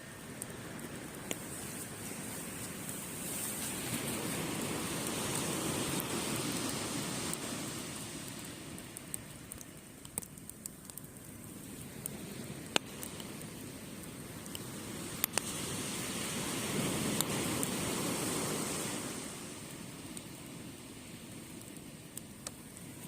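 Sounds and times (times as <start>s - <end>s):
campfire crackling: 0.0s - 23.0s
waves washing onto beach: 0.0s - 23.0s.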